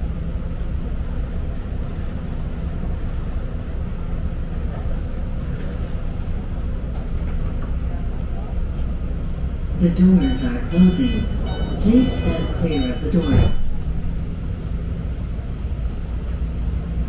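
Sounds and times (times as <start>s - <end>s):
train car rumble and hum: 0.0s - 17.0s.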